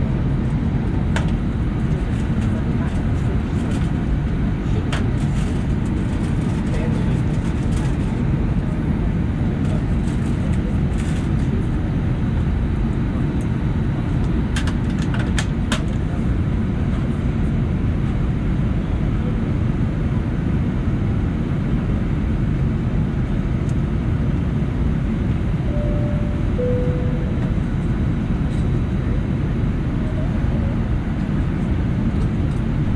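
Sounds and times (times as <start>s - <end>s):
aircraft cabin rumble: 0.0s - 32.9s.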